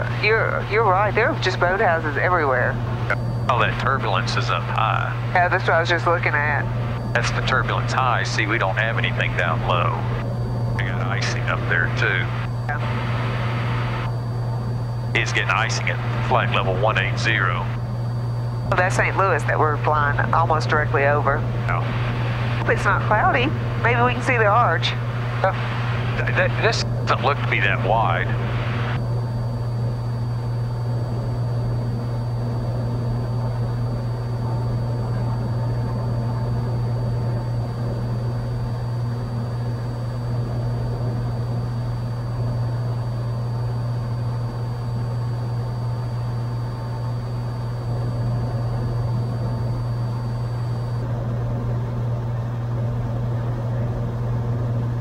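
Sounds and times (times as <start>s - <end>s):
airplane engine droning: 0.0s - 55.0s.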